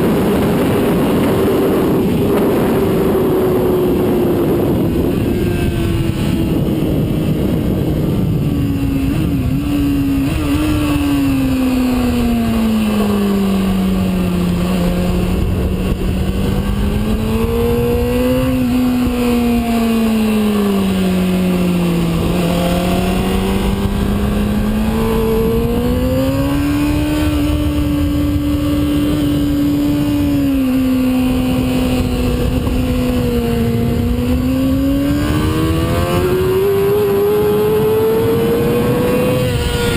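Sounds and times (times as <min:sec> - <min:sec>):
sport bike engine revving: 0:00.0 - 0:39.9
wind noise: 0:00.0 - 0:39.9.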